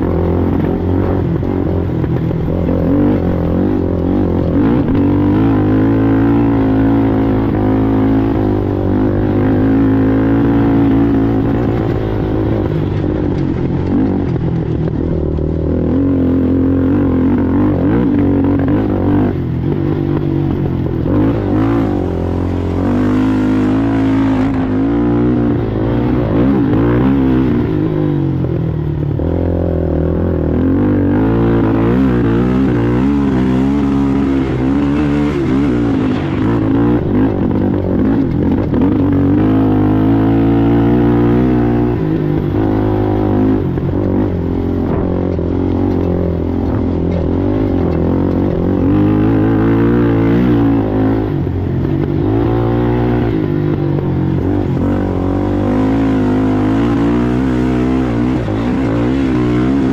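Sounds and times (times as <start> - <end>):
racing atv engine: 0.0 - 59.9.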